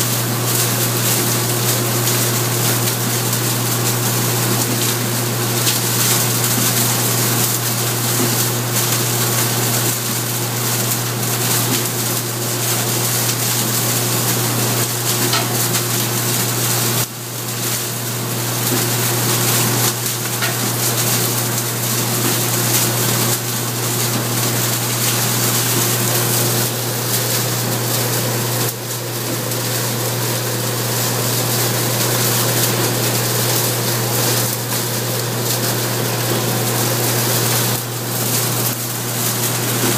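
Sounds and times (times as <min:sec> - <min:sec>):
straw shredder running: 0:00.0 - 0:39.9.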